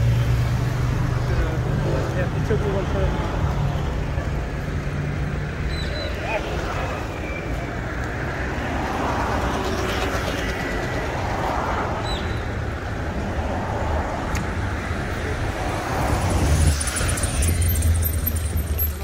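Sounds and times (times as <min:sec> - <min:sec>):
indistinct voices of passers-by: 0:00.0 - 0:19.0
road traffic noise: 0:00.0 - 0:19.0.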